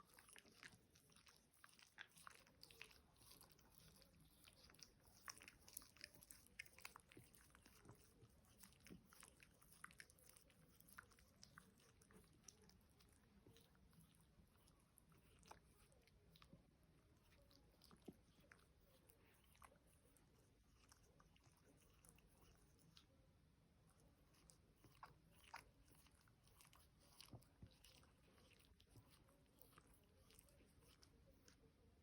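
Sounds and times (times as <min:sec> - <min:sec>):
small dogs chewing: 0:00.0 - 0:23.1, 0:23.9 - 0:32.0.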